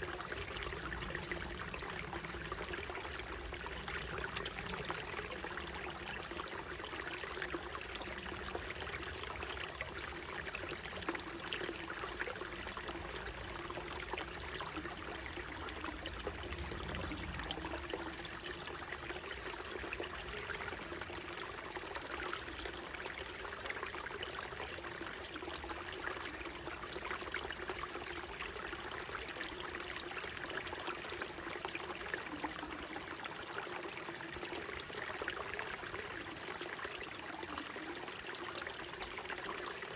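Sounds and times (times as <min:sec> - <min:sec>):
mountain stream babbling: 0:00.0 - 0:39.9.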